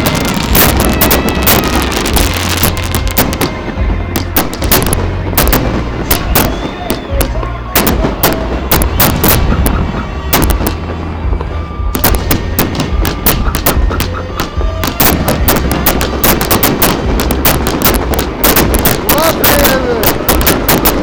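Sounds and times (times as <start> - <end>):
firecrackers banging: 0.0 - 21.0
fireworks whistling: 0.0 - 21.0.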